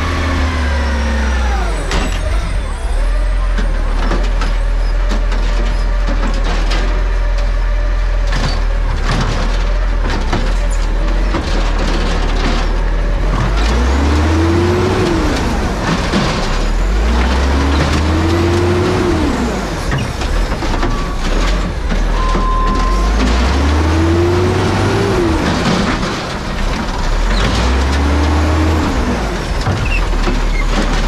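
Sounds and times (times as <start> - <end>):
truck diesel engine revving: 0.0 - 31.0.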